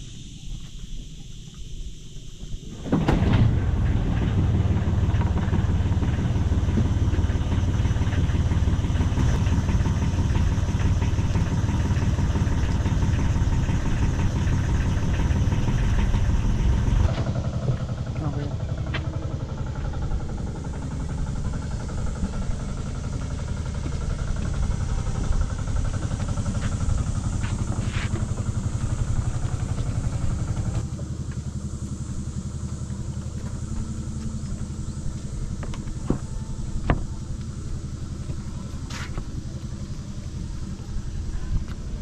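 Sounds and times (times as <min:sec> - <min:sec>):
engine droning: 0:00.0 - 0:42.0.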